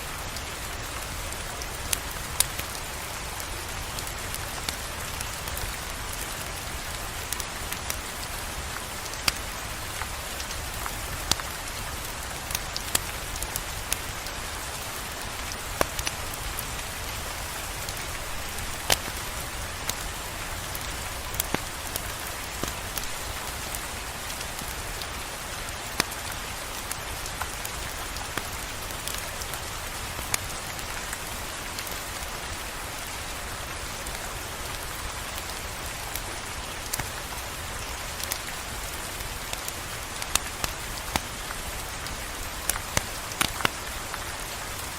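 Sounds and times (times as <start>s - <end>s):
steady rain hiss: 0.0s - 44.9s.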